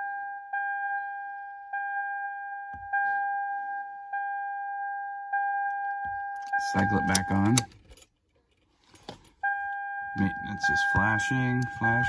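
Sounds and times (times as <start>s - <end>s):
dashboard warning chime: 0.0s - 8.0s, 9.0s - 12.0s.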